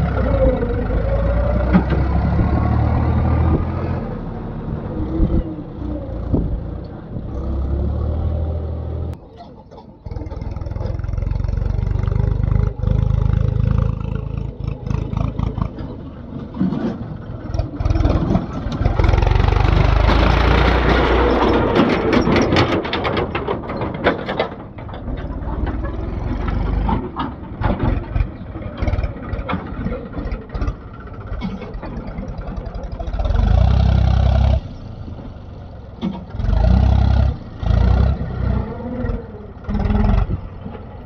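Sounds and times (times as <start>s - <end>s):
diesel engine under load: 0.0s - 41.0s.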